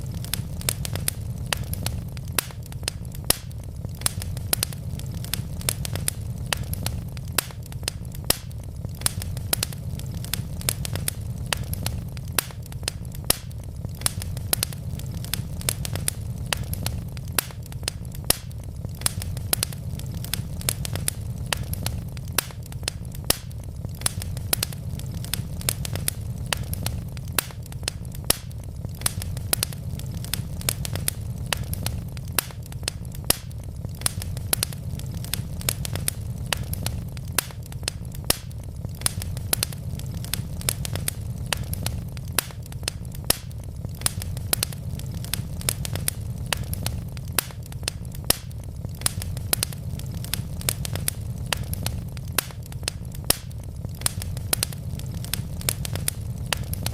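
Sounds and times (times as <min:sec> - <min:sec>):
burning logs crackling: 0:00.0 - 0:56.9.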